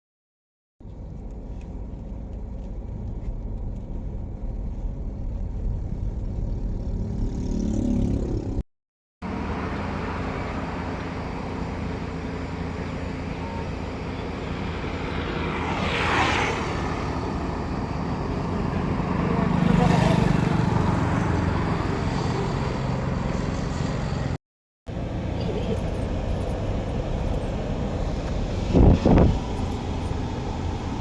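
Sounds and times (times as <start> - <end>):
road traffic noise: 0.8 - 8.6, 9.2 - 31.0
truck engine rumbling: 0.8 - 8.6, 9.2 - 31.0
vehicle passing by: 3.2 - 8.6, 9.2 - 31.0.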